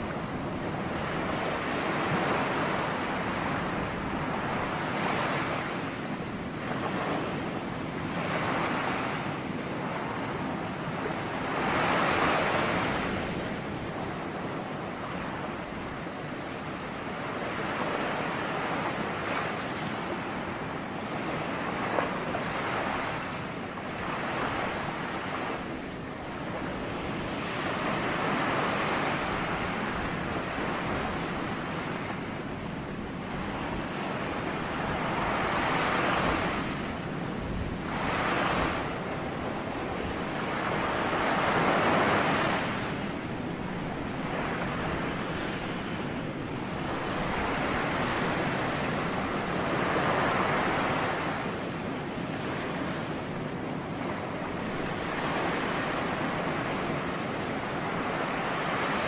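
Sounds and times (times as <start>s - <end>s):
ocean waves washing onto shore: 0.0s - 59.0s.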